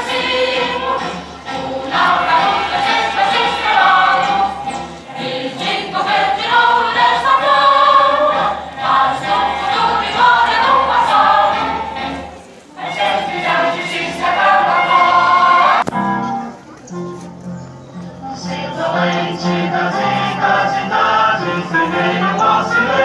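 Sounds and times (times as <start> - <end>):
choir singing: 0.0 - 15.9, 18.4 - 23.0
musical accompaniment: 0.0 - 23.0.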